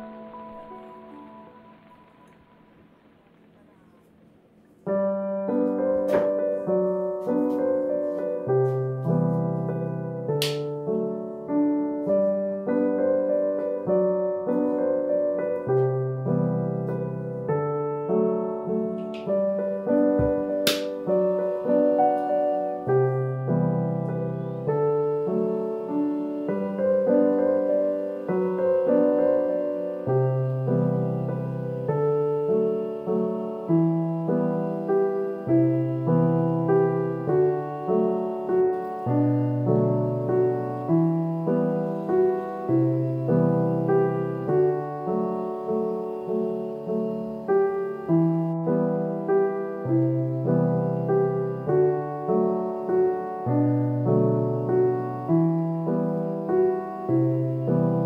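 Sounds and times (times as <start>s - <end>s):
slow gentle piano music: 0.0s - 58.0s.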